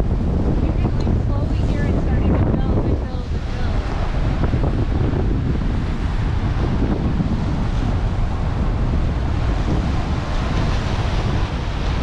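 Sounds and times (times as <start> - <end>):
ocean surf breaking on seawall: 0.0 - 12.0
wind buffeting microphone: 0.0 - 12.0.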